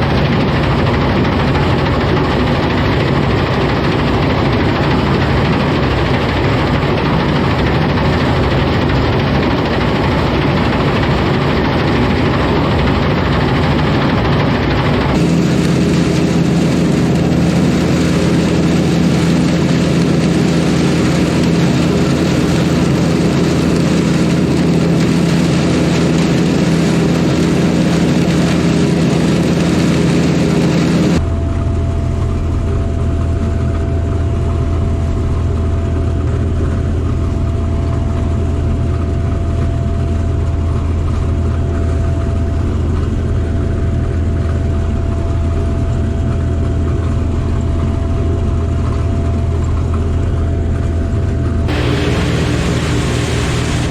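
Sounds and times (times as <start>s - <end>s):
combine harvester drone: 0.0s - 53.9s
steady hum tone: 0.0s - 53.9s.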